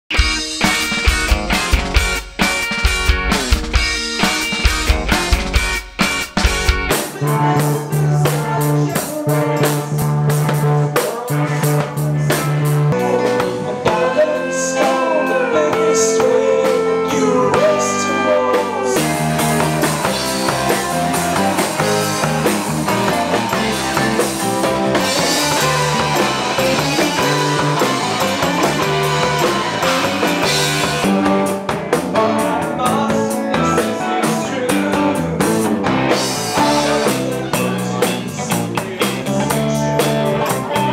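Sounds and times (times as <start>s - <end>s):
rock band playing: 0.1s - 40.9s.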